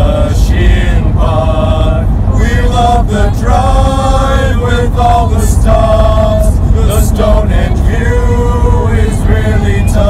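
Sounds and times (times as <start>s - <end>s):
group singing mock-operatic chorus: 0.0s - 10.0s
van rumbling: 0.0s - 10.0s.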